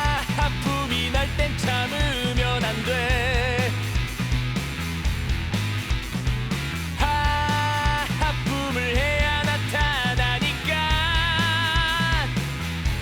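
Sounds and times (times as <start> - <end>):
bass line: 0.0 - 13.0
upbeat rock music: 0.0 - 13.0.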